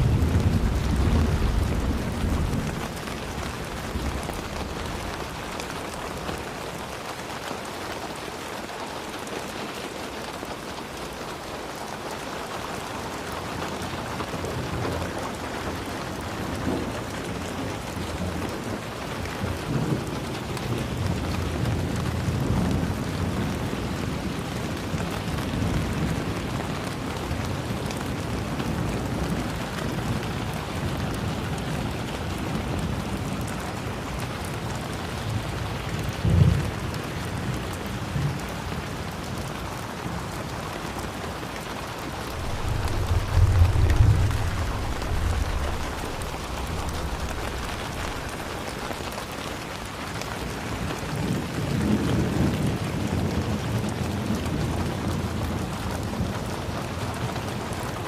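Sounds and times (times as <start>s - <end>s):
low thunder rumbles: 0.0s - 7.0s, 14.2s - 40.4s, 41.0s - 56.6s
heavy rain falling: 0.0s - 58.0s.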